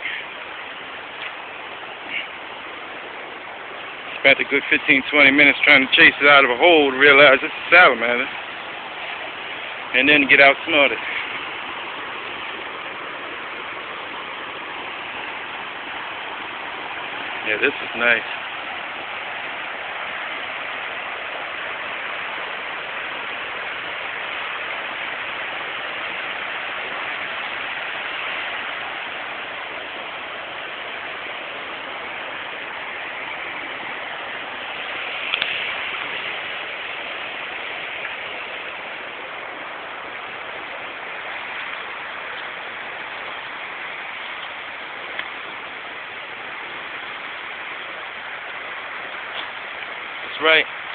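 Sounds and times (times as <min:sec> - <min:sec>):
river rushing through rapids: 0:00.0 - 0:50.9.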